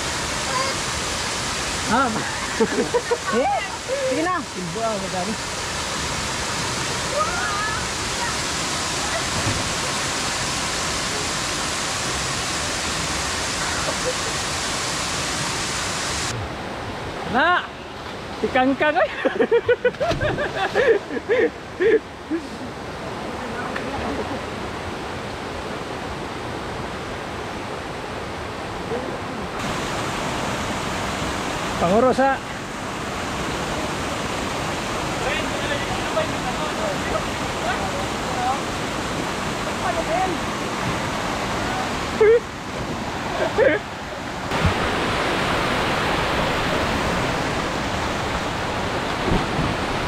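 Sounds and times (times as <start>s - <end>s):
waterfall rushing into pool: 0.0s - 50.0s.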